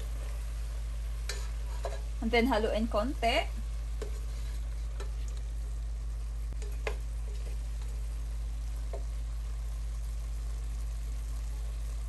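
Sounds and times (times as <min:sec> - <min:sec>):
food sizzling in pot: 0:00.0 - 0:12.0
steady low hum: 0:00.0 - 0:12.0.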